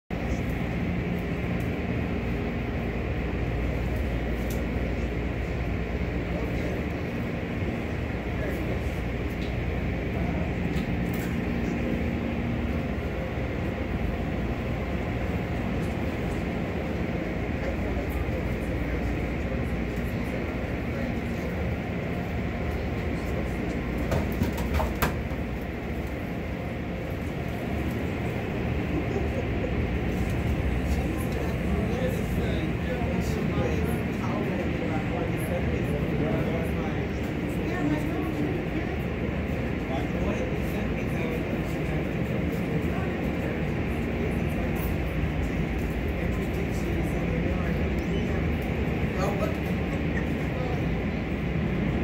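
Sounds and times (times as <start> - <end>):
car wash machinery drone: 0.1 - 52.0.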